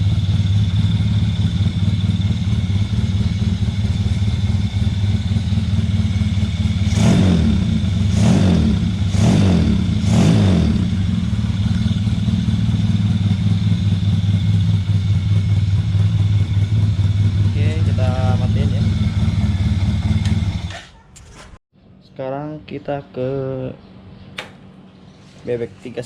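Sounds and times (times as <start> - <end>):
motorcycle engine idling and revving: 0.0 - 20.9.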